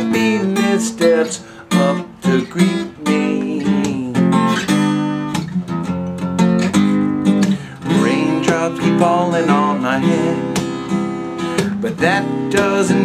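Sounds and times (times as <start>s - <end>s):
acoustic guitar strummed hard: 0.0s - 13.0s.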